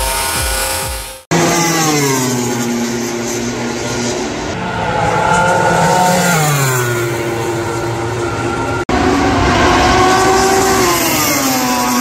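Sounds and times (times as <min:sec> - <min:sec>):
race motorcycles passing: 0:00.0 - 0:12.0.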